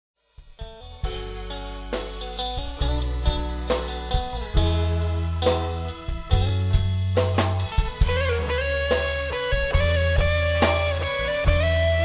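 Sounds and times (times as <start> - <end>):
drum kit strokes: 0.2 - 12.0
bass notes: 0.4 - 12.0
guitar melody: 0.6 - 12.0.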